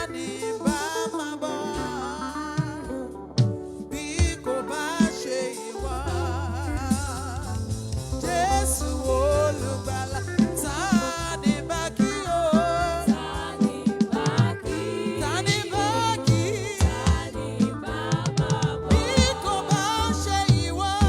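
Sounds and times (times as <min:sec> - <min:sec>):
bass: 0:00.0 - 0:00.8, 0:01.8 - 0:05.1, 0:05.8 - 0:21.0
person singing with vibrato: 0:00.0 - 0:03.3, 0:03.9 - 0:21.0
steady drum beat: 0:02.6 - 0:21.0.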